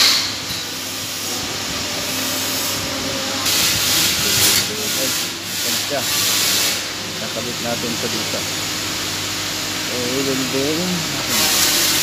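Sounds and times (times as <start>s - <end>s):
welding torch hissing: 0.0s - 12.0s.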